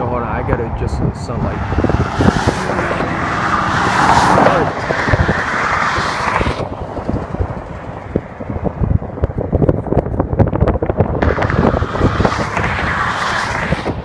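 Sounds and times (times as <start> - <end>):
freeway traffic noise: 0.0 - 14.0
wind buffeting microphone: 0.0 - 14.0.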